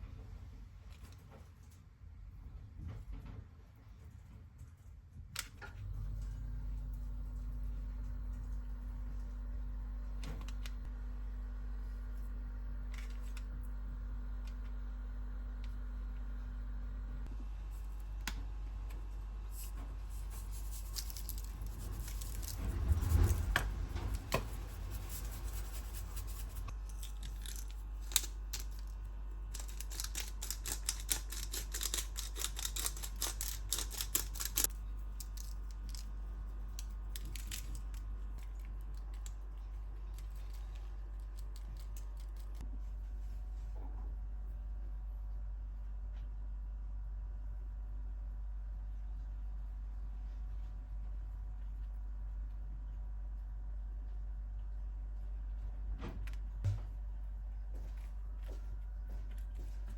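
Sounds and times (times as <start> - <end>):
steady low hum: 5.6 - 59.9.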